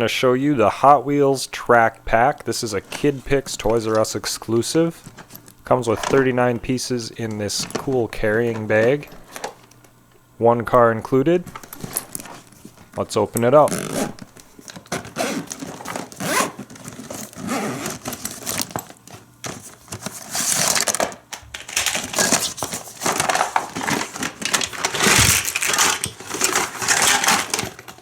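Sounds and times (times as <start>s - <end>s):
packaging rustling and crinkling: 2.1s - 9.9s, 11.2s - 28.0s.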